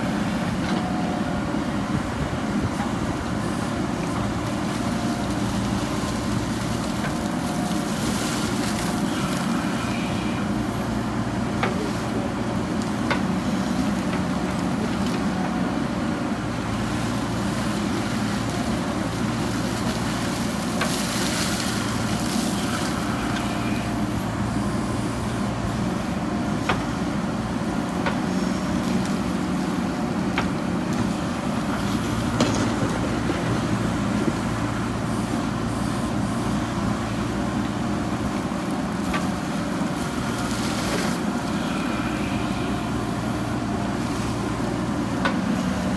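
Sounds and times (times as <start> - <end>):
backhoe diesel engine running: 0.0 - 45.9.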